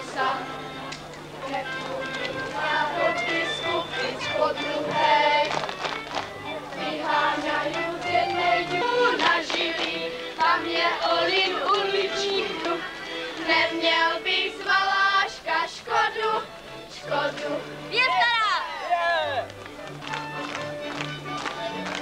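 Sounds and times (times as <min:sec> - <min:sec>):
group singing folk song: 0:00.0 - 0:18.2.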